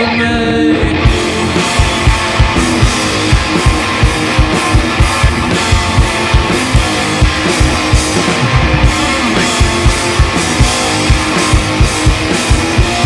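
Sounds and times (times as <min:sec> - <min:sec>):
drum kit beat: 0:00.0 - 0:13.0
electric guitar: 0:00.0 - 0:13.0.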